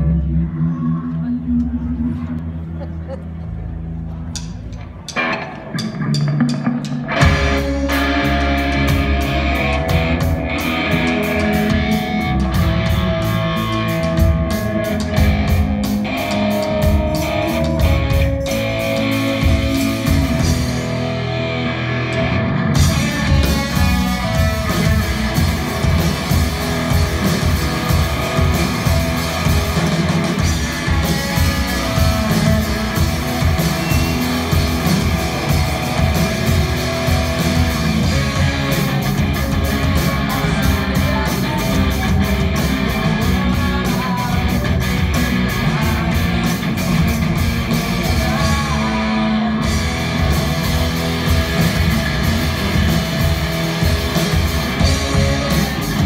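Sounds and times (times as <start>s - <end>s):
electric guitar: 0.0s - 56.0s
drum kit beat: 4.4s - 21.4s, 22.0s - 56.0s.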